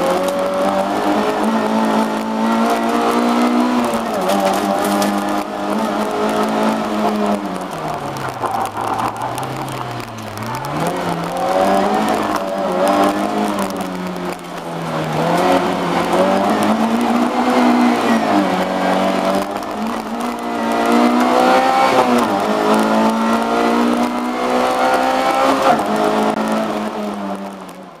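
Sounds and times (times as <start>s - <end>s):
car engine revving hard: 0.0s - 27.8s.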